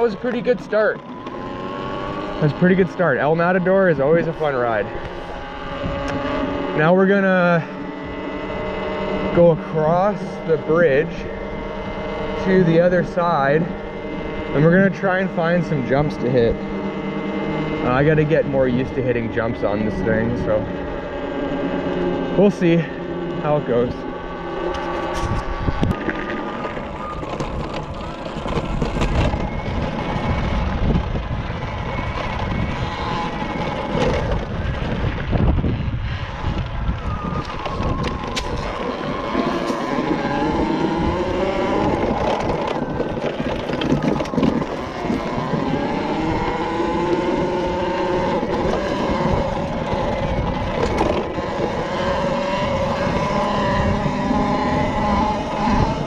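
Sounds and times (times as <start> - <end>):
electric motor whining: 0.0 - 56.0
low rumble: 2.0 - 56.0.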